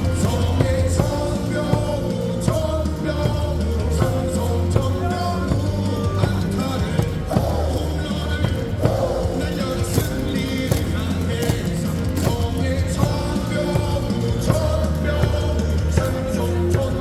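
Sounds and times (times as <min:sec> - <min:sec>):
up-tempo rock song with singing: 0:00.0 - 0:17.0.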